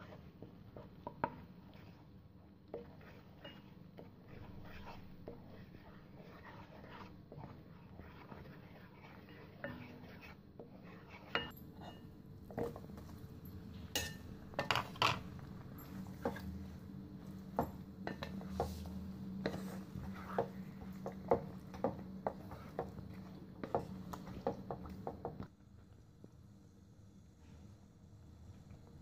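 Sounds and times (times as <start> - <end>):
spatula scraping a frying pan: 0.0 - 2.1, 2.7 - 13.1, 13.8 - 25.2
steady low hum: 0.0 - 29.0.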